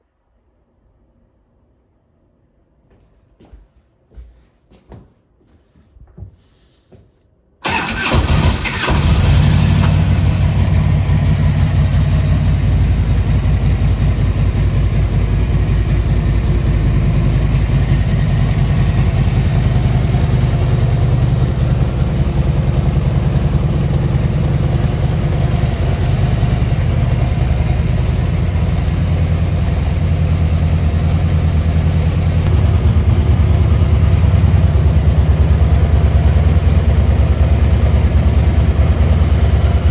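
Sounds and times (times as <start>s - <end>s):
motorcycle engine starting and idling: 7.6s - 39.9s.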